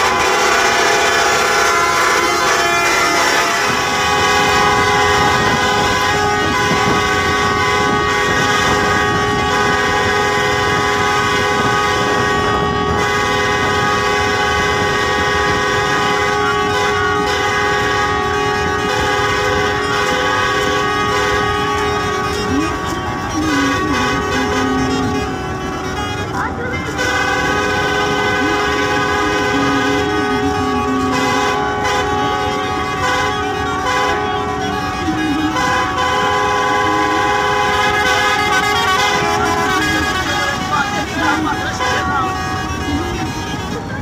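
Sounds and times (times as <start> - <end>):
bus air horn chord: 0.0 - 44.0
bus engine and road rumble: 0.0 - 44.0.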